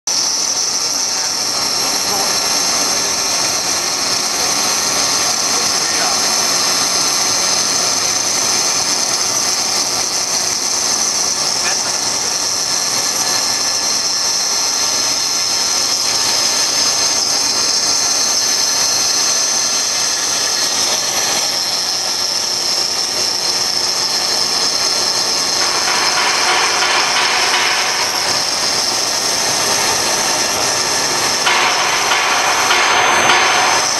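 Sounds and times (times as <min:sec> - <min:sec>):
router spindle whine: 0:00.1 - 0:33.9.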